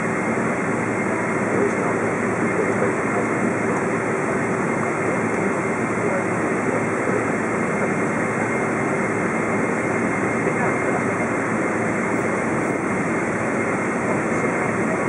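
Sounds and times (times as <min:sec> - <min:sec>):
faint steady whine: 0:00.0 - 0:15.0
jet engine cabin rush: 0:00.0 - 0:15.0.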